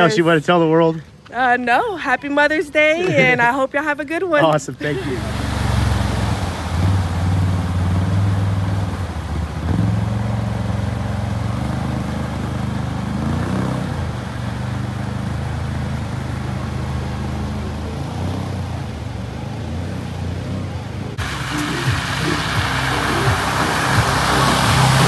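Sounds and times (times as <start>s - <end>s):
atv engine running: 4.4s - 25.0s
water rushing from wake: 4.7s - 25.0s.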